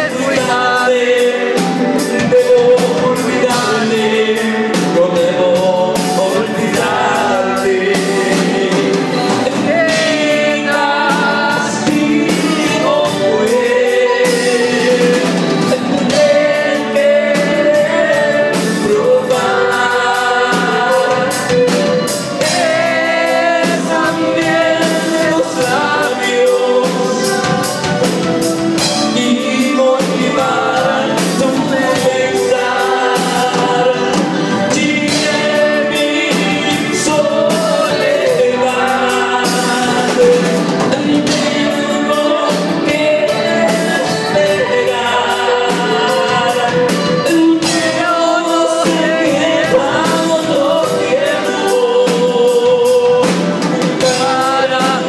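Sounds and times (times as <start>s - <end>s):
band with bass and drums: 0.0s - 55.0s
man singing into microphone: 0.0s - 55.0s.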